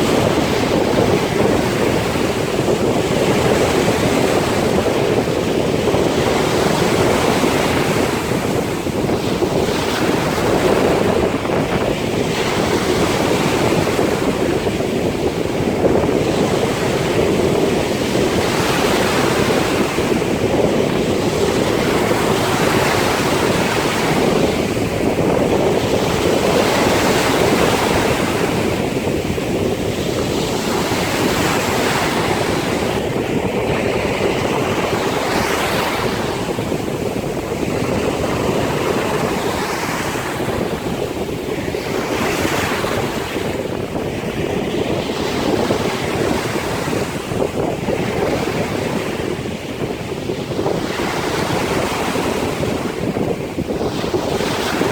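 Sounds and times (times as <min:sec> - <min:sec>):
rushing surf: 0:00.0 - 0:54.9
wind blowing across microphone: 0:00.0 - 0:54.9.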